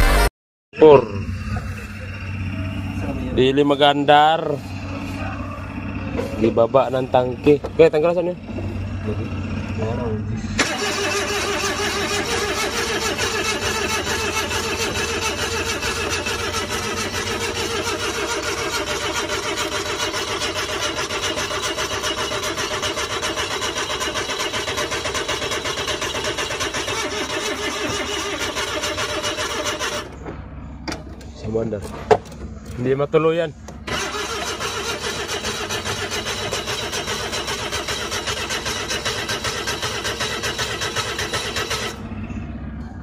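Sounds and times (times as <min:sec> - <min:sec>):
engine cranking on starter motor: 0:04.2 - 0:32.9, 0:33.6 - 0:42.4.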